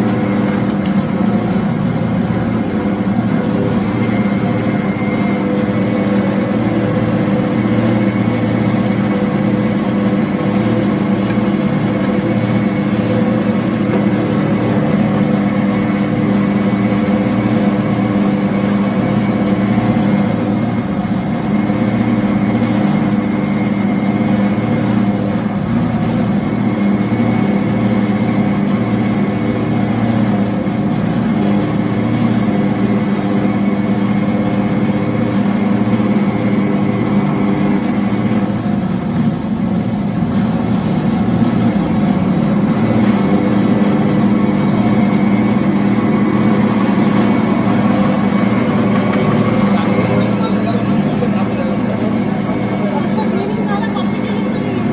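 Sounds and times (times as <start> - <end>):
grinder motor humming and whining: 0.0 - 54.9.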